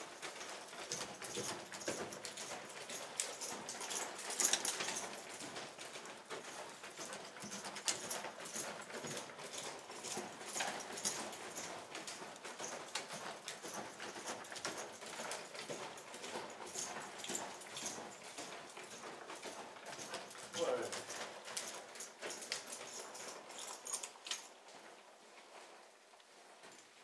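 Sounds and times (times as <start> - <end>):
horse hooves on sand: 0.0 - 27.0.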